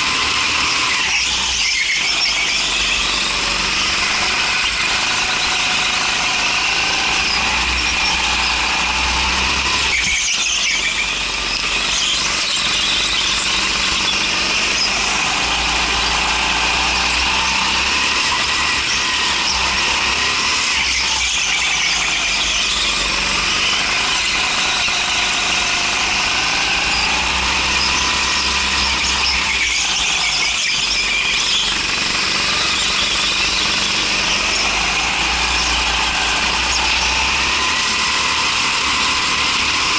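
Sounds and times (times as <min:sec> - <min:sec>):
go-kart engine: 0:00.0 - 0:39.9
tyre squeal: 0:00.0 - 0:39.9.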